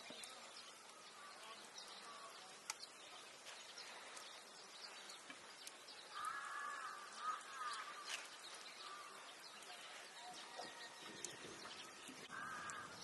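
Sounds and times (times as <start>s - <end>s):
birds: 0.0s - 13.0s.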